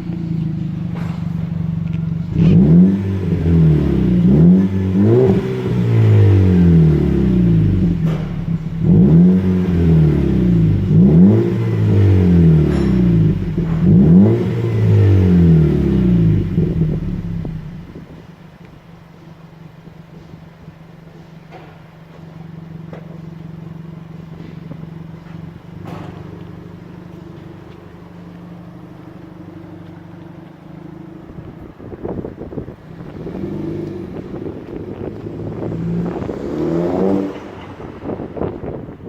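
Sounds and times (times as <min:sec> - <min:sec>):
car engine idling and revving: 0:00.0 - 0:39.0.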